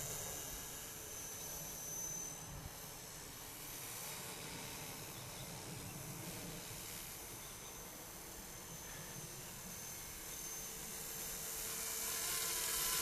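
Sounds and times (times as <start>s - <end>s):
helicopter rotor noise: 0.0s - 13.0s
high motor whine: 0.0s - 13.0s.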